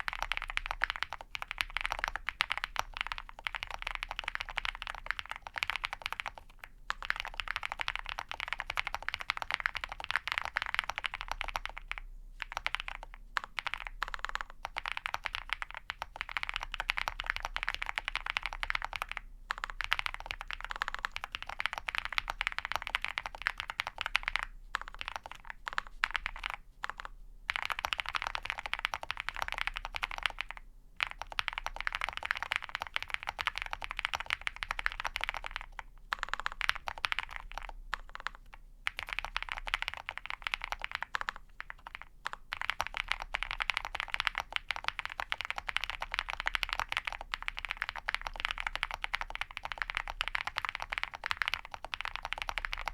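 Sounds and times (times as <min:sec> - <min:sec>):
typing on mechanical keyboard: 0:00.0 - 0:52.9.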